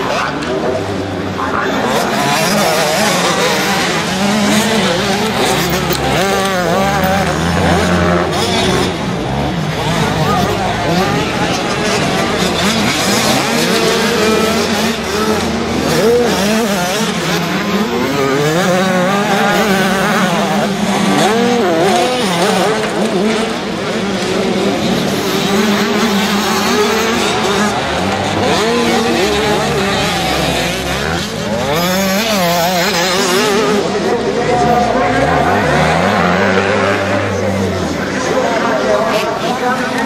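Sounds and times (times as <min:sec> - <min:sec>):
motocross bikes revving: 0:00.0 - 0:40.0.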